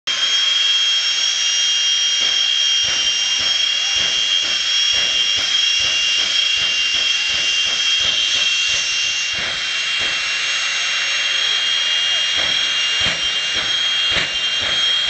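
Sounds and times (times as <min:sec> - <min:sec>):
jet turbine engine whine: 0:00.1 - 0:15.0
low rumbling pulse: 0:01.6 - 0:15.0.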